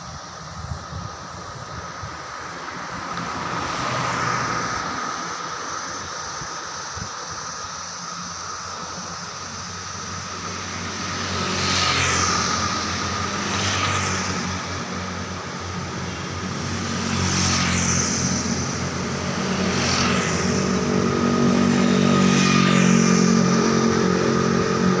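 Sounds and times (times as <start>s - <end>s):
vehicles passing by: 0.0s - 25.0s.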